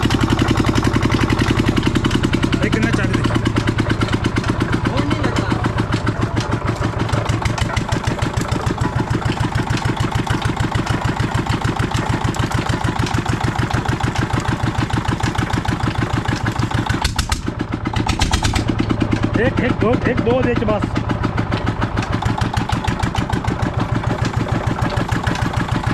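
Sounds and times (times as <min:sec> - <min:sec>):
diesel engine running steadily: 0:00.0 - 0:25.9.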